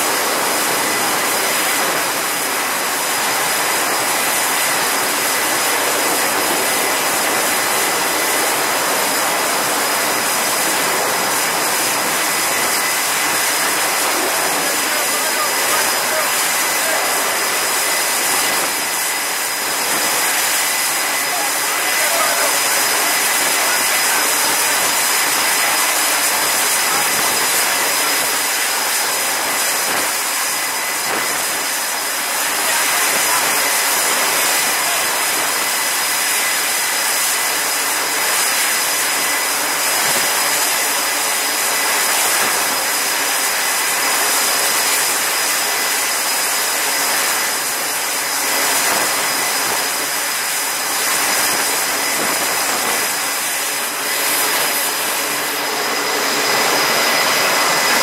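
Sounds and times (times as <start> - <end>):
jet engine hiss: 0.0 - 58.0
thin high whine: 0.1 - 58.0.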